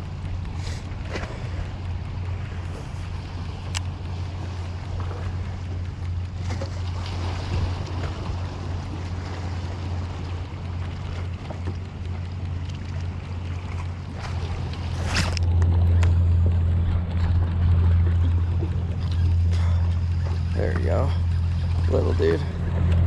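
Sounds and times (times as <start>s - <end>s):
water washing around kayak: 0.0s - 23.0s.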